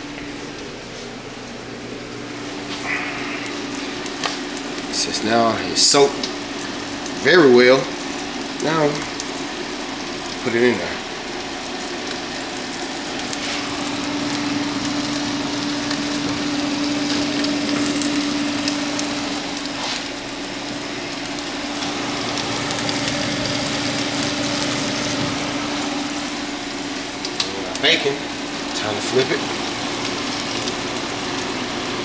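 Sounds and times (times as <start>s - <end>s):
food sizzling in pans: 0.0s - 32.0s.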